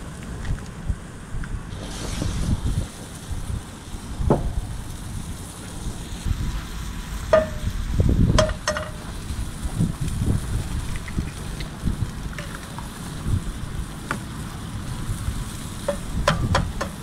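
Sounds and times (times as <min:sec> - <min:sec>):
wind rumbling on microphone: 0:00.0 - 0:17.0
food sizzling in a pan: 0:01.8 - 0:17.0.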